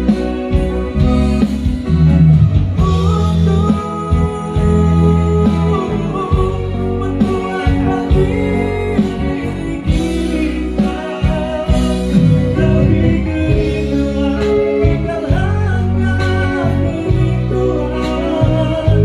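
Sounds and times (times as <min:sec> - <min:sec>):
bass line: 0:00.0 - 0:19.0
guitar: 0:00.0 - 0:19.0
person singing: 0:00.0 - 0:19.0.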